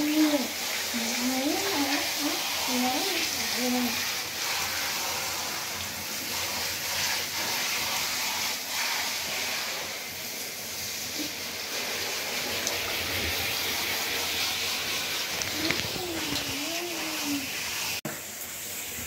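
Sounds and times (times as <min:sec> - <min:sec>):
shower water spraying: 0:00.0 - 0:19.0.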